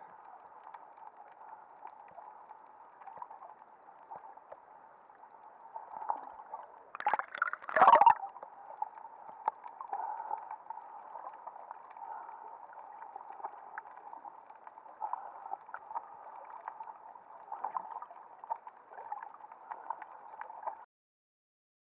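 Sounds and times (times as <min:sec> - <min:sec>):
small clicks and crackles: 0:00.0 - 0:07.5, 0:08.2 - 0:20.8.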